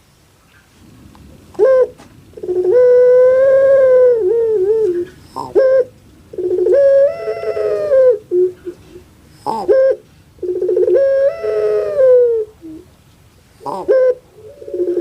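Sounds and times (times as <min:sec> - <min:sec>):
dove calling: 0:00.5 - 0:15.0.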